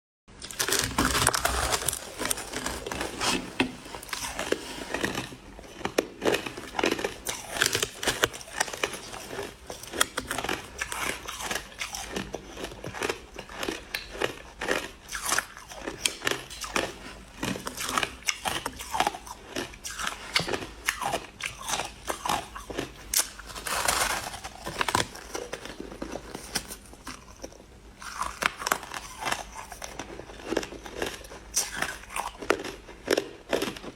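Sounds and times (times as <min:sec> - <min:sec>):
person chewing crushed ice: 0:00.3 - 0:33.9.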